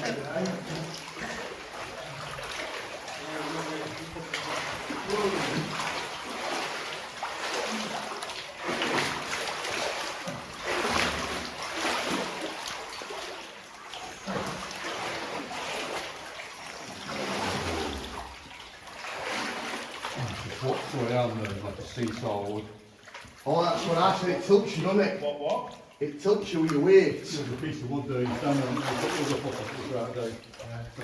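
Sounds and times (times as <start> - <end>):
water sloshing and splashing: 0.0 - 31.0.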